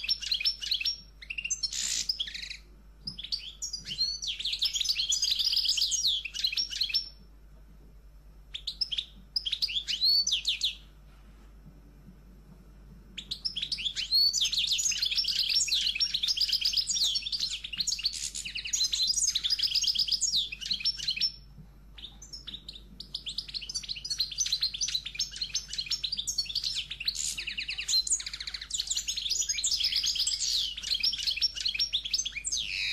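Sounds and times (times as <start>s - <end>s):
birds chirping and singing: 0.0s - 7.2s, 8.5s - 10.8s, 13.2s - 21.4s, 22.0s - 32.9s.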